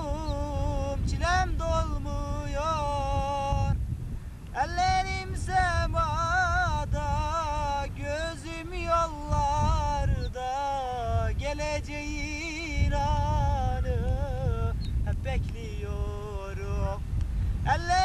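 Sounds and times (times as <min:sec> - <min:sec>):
man singing unaccompanied: 0:00.0 - 0:03.9, 0:04.5 - 0:18.0
wind rumble on microphone: 0:00.0 - 0:18.0.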